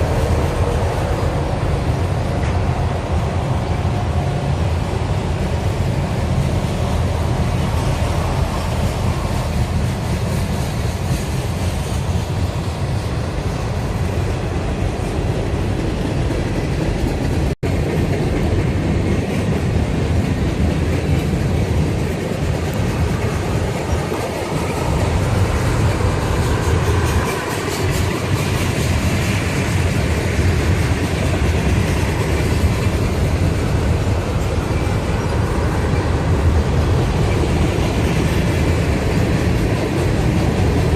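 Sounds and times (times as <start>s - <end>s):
freight train rumbling past: 0.0s - 40.9s.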